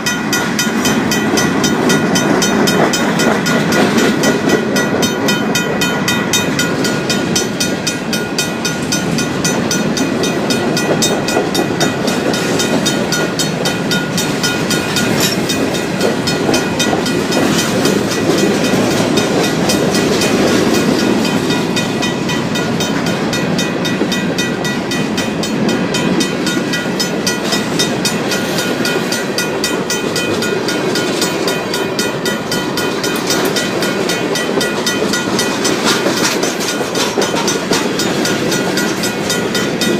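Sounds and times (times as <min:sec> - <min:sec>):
crossing bell ringing: 0:00.0 - 0:39.9
train wheels clattering over rails: 0:00.0 - 0:39.9.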